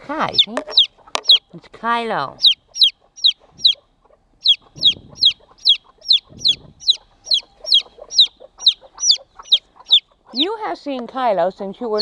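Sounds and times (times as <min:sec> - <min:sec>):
baby chick peeping loudly: 0:00.0 - 0:12.0.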